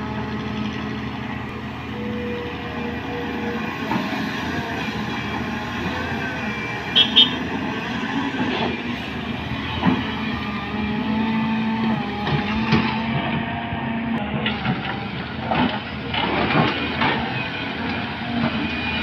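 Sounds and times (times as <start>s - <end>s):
excavator diesel engine and hydraulics: 0.0s - 19.0s.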